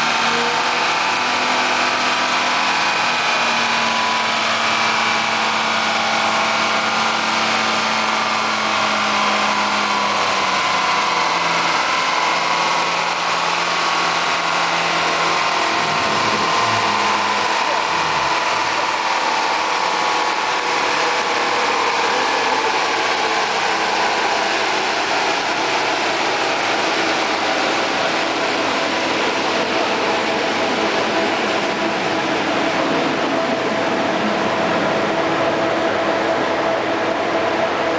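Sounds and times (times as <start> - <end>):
car engine running steadily: 0.0 - 37.9.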